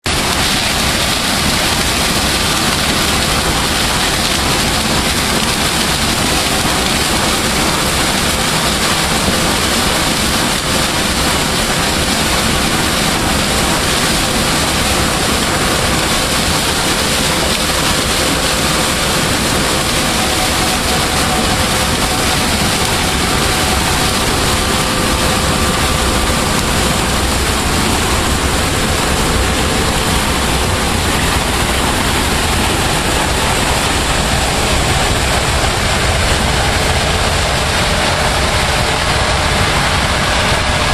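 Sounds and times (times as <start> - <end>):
combine harvester running: 0.0 - 40.9.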